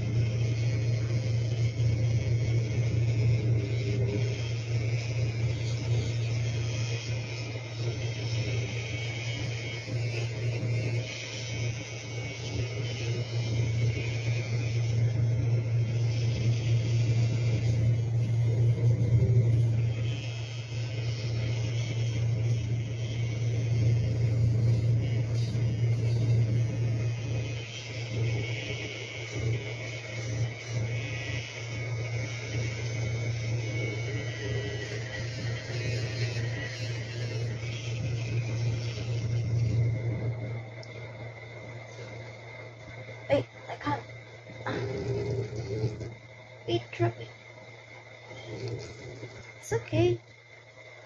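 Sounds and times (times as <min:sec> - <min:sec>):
nail grinder humming: 0:00.0 - 0:50.4
grinding hiss on nail: 0:00.0 - 0:51.0.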